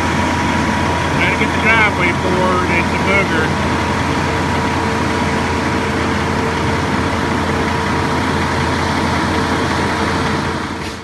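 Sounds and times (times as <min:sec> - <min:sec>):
constant whine: 0:00.0 - 0:10.8
diesel engine running: 0:00.0 - 0:11.0.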